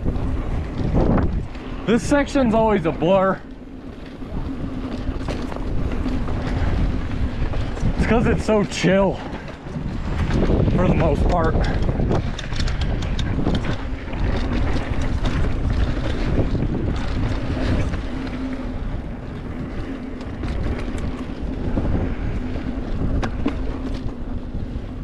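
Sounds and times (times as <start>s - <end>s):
bike clicks and rattles: 0.0s - 25.0s
bike tyres rolling on dirt: 0.0s - 25.0s
wind rushing over microphone: 0.0s - 25.0s.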